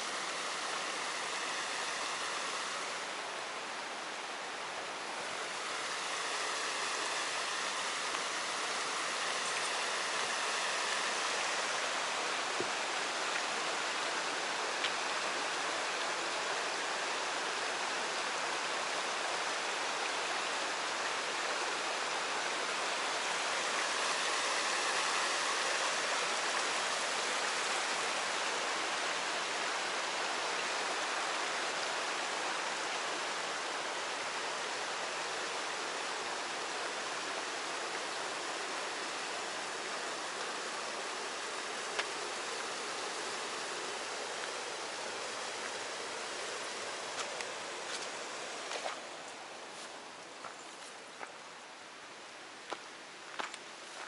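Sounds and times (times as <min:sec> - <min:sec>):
river water rushing over weir: 0:00.0 - 0:54.0.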